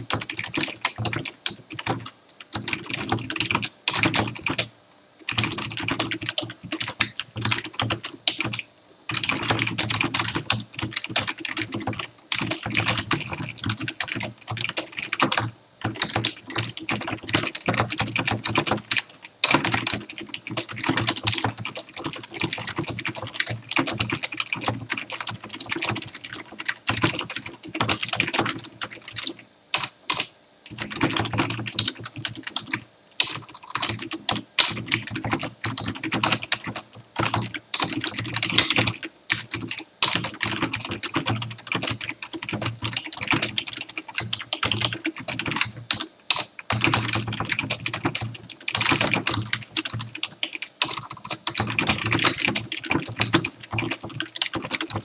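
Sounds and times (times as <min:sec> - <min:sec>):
computer keyboard typing: 0:00.0 - 0:55.0.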